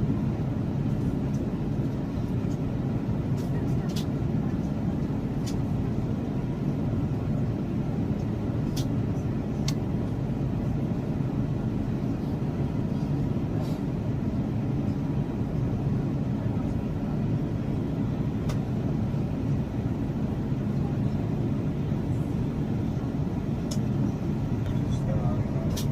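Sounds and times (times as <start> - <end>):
airliner cabin rumble: 0.0 - 25.9.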